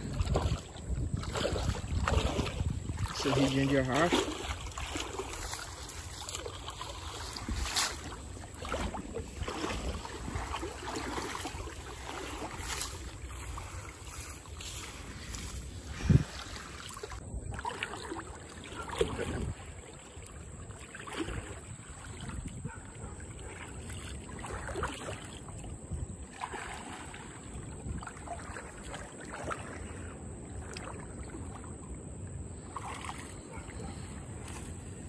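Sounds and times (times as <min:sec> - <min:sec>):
wind rumbling on microphone: 0:00.0 - 0:32.7
shallow water sloshing and splashing: 0:00.0 - 0:35.0.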